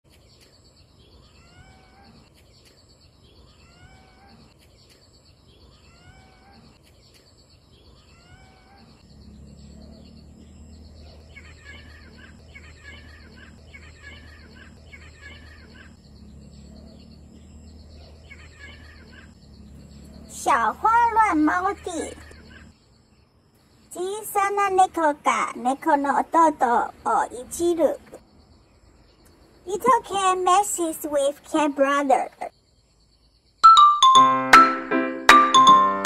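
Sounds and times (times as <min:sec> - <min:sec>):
birds calling: 0:00.1 - 0:33.6.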